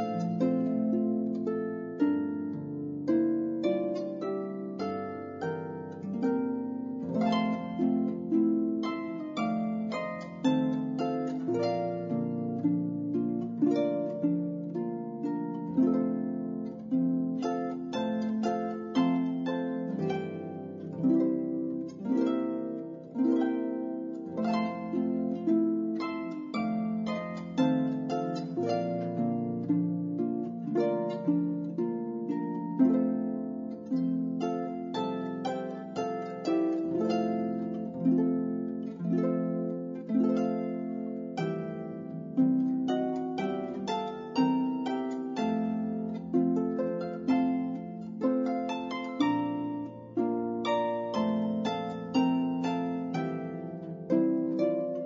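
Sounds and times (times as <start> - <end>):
gentle plucked string melody: 0.0 - 55.0.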